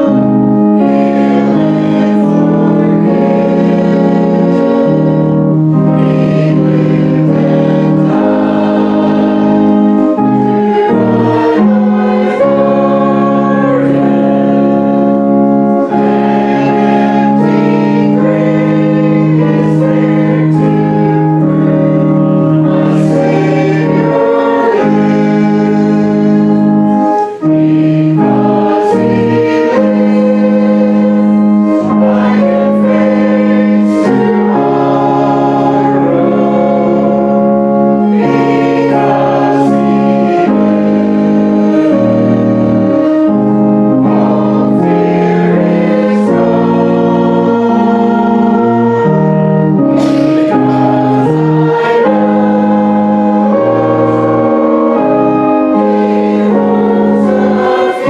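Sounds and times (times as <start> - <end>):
congregation singing a hymn: 0.0 - 58.0
keyboard chords: 0.0 - 58.0.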